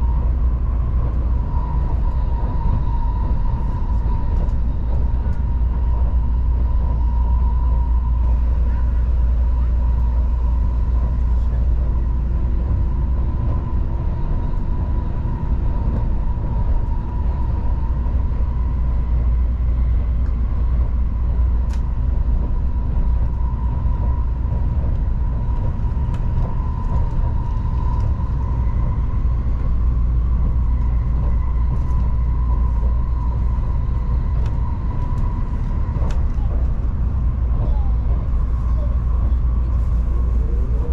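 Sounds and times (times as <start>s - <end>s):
constant high hum: 0.0s - 40.9s
train interior low rumble: 0.0s - 40.9s.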